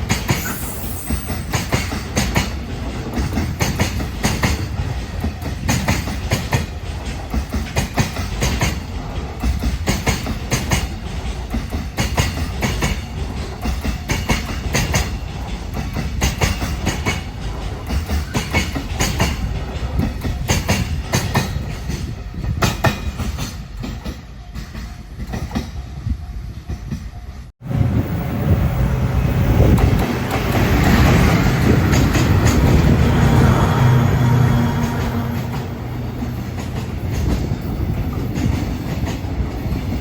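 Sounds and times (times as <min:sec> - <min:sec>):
freight train rolling past: 0:00.0 - 0:40.0.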